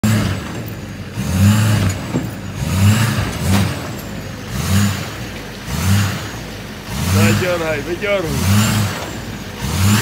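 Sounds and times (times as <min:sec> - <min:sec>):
pickup engine revving: 0:00.0 - 0:10.0.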